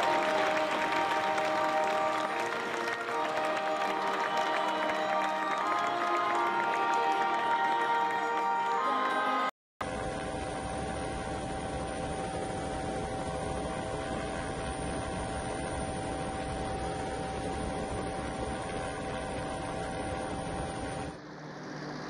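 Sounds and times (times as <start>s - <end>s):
steady droning hum: 0.0s - 7.4s, 9.9s - 22.0s.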